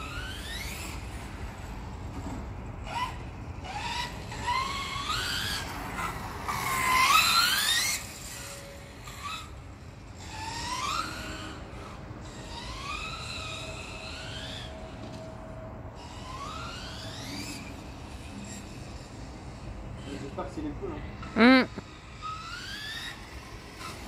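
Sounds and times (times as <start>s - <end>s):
electric motor whining: 0.0s - 15.3s, 16.0s - 20.4s.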